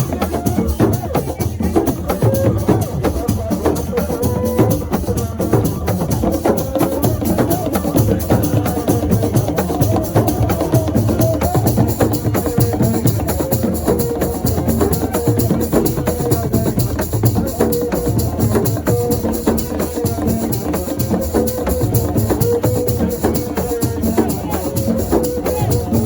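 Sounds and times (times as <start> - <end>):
fast dense drumming: 0.0 - 26.0.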